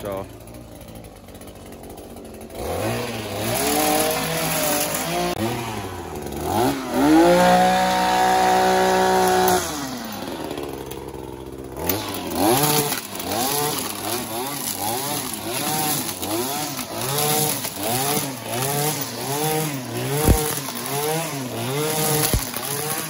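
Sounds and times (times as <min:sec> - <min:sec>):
string trimmer engine revving: 0:00.0 - 0:23.0.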